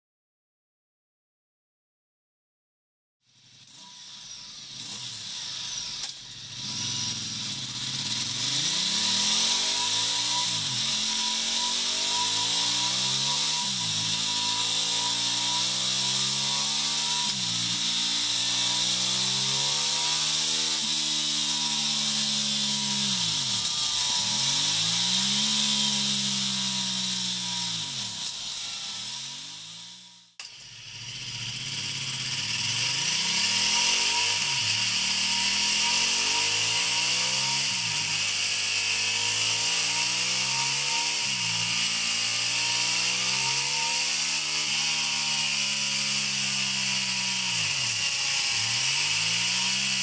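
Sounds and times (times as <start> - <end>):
motorcycle engine revving: 3.3 - 50.0.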